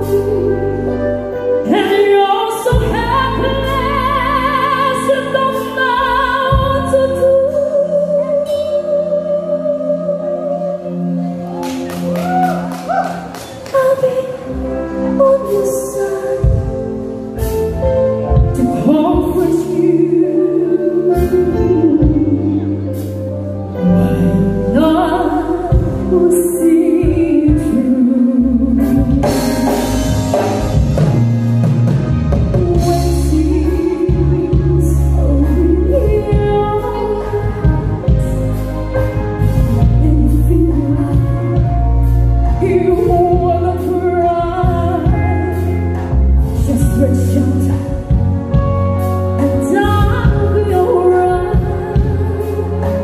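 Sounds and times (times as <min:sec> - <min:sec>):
woman singing a ballad: 0:00.0 - 0:30.2, 0:32.3 - 0:53.0
band playing: 0:00.0 - 0:53.0
electric guitar: 0:00.0 - 0:53.0
keyboard: 0:00.0 - 0:53.0.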